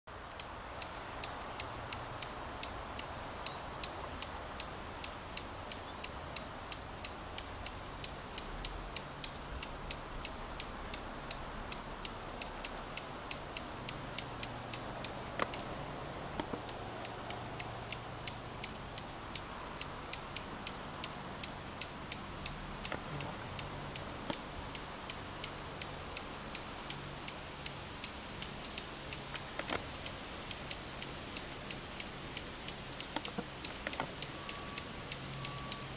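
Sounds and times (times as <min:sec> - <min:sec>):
finch alarm chirps: 0:00.3 - 0:15.8, 0:16.4 - 0:35.9.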